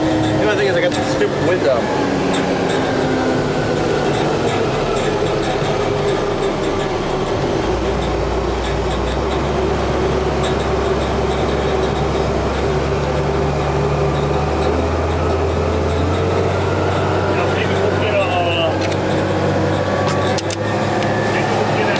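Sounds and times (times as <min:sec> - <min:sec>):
running engines and ground machinery: 0:00.0 - 0:21.9.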